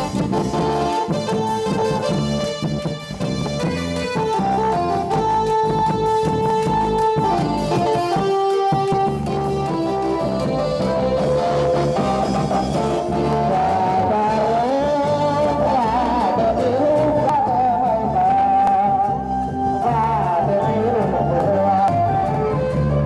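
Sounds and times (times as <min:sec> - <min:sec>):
procession music over loudspeakers: 0:00.0 - 0:23.0.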